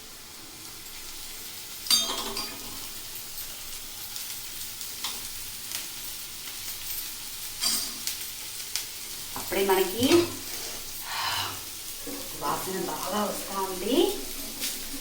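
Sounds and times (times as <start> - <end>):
dosa sizzling in oil: 0.0 - 15.0.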